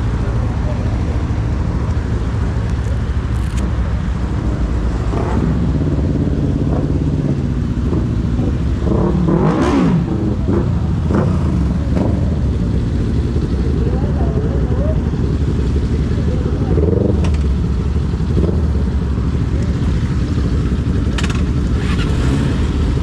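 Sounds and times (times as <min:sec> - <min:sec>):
motorcycle engine revving: 0:03.6 - 0:23.0.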